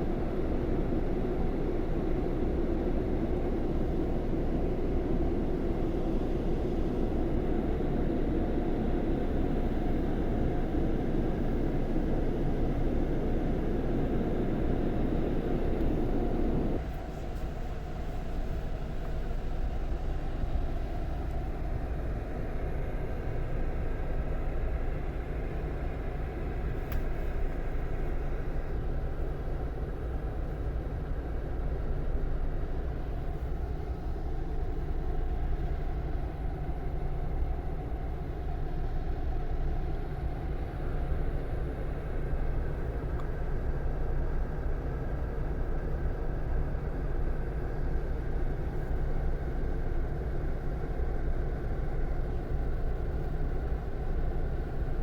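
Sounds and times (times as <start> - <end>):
diesel engine running: 3.1 - 55.0.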